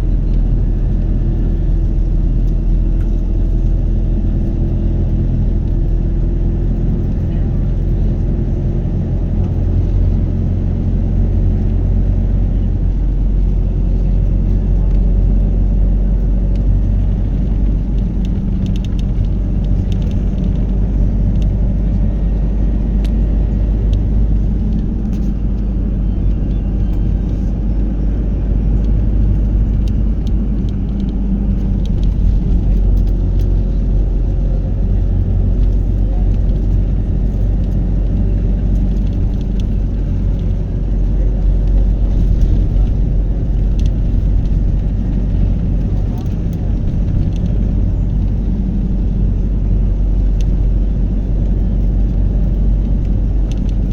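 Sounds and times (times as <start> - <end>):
car rumbling in motion: 0.0 - 53.9.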